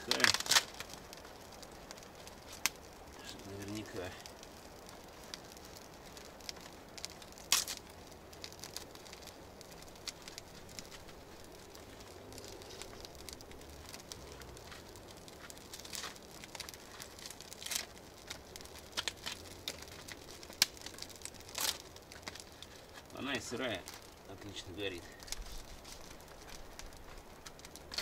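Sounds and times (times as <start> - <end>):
campfire crackling and popping: 0.0 - 28.0
faint steady hiss: 0.0 - 28.0.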